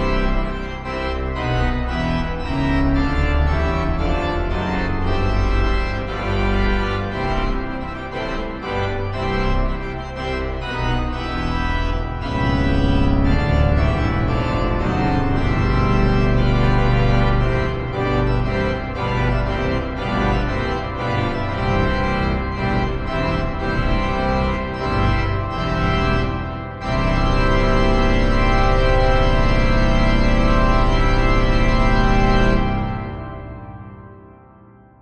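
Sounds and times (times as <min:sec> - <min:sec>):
pipe organ playing a march: 0:00.0 - 0:34.5.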